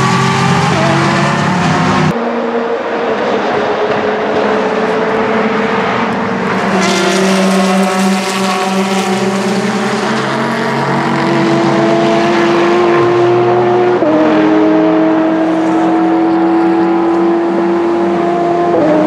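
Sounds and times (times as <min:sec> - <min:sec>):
racing cars passing: 0:00.0 - 0:19.0.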